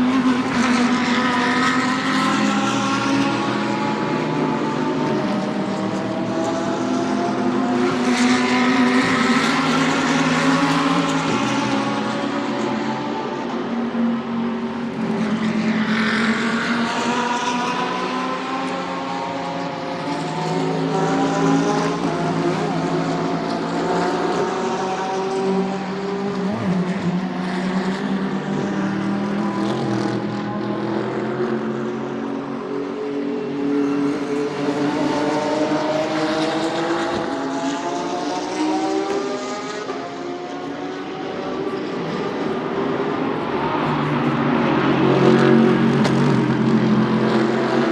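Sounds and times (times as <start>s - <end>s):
race car engines: 0.0s - 47.9s.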